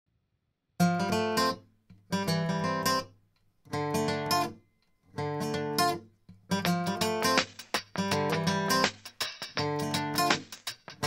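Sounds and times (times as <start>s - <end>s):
acoustic guitar strumming: 0.8s - 3.1s, 3.7s - 11.0s.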